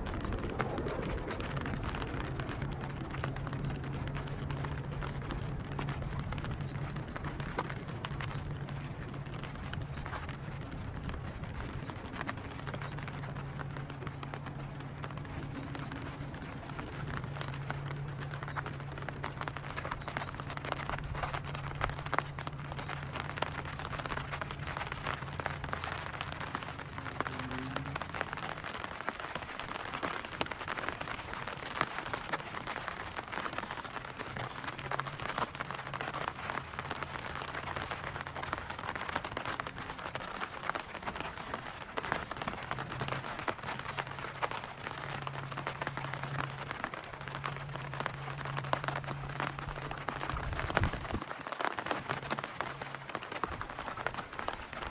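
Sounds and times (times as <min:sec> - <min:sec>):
low steady hum: 0:00.0 - 0:54.9
rain pattering: 0:00.0 - 0:54.9.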